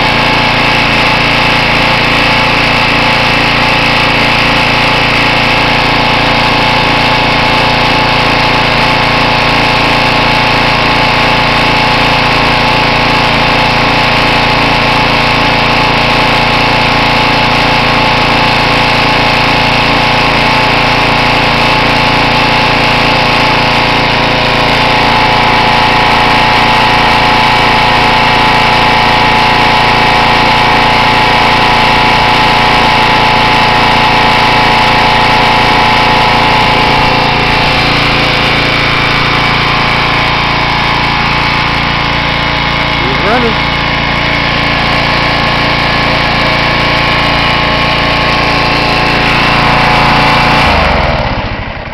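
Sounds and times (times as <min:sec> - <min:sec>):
pressure washer engine running: 0:00.0 - 0:51.9.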